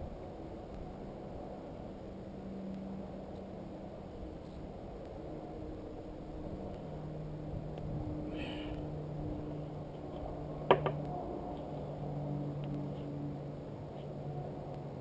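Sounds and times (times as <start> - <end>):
wind rumble on microphone: 0.0 - 13.5
steady low hum: 0.0 - 15.0.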